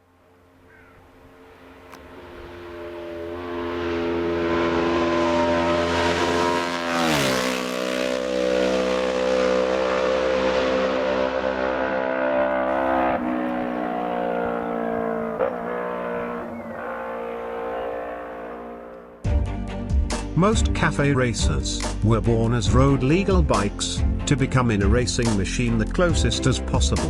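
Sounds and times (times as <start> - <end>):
racing motorcycle engine: 0.1 - 27.0.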